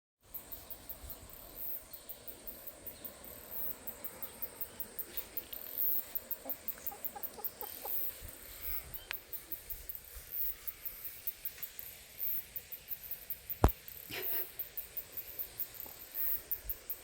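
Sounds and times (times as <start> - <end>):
crickets chirping: 0.2 - 17.0.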